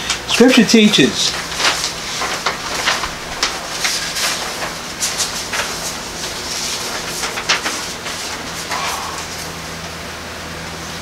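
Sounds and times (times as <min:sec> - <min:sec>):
paper rustling: 0:00.3 - 0:09.7.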